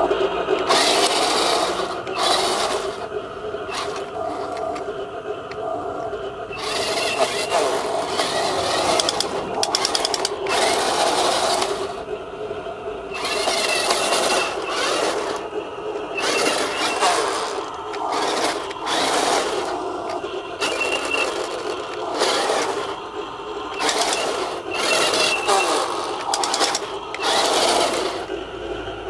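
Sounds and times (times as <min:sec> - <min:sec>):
toy tank motors whining: 0:00.0 - 0:29.0
tracks grinding over gravel: 0:00.5 - 0:05.7, 0:06.5 - 0:12.0, 0:13.1 - 0:28.4.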